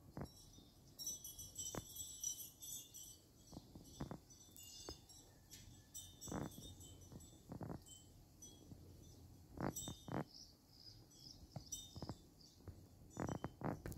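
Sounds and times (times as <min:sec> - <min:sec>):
chime-like tinkling: 0:00.0 - 0:13.9.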